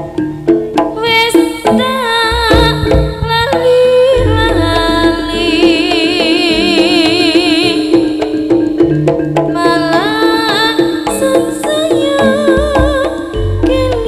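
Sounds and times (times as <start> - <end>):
drum and percussion strokes: 0.0 - 14.0
wavering melody with vibrato: 0.0 - 14.0.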